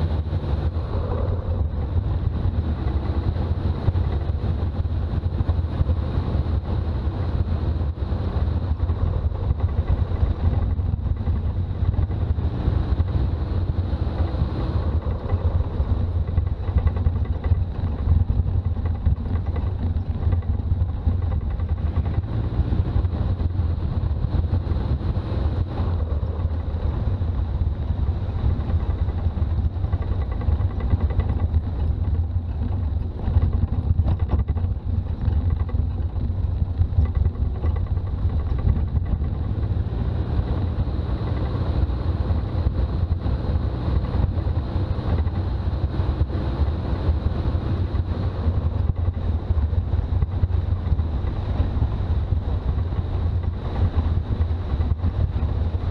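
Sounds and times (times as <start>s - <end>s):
diesel engine rumble: 0.0s - 55.9s
road noise: 0.0s - 55.9s.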